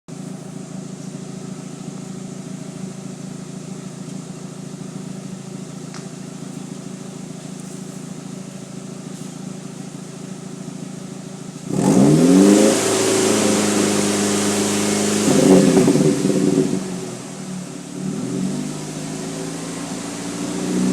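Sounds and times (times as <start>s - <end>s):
car exhaust idling and revving: 0.1s - 20.9s.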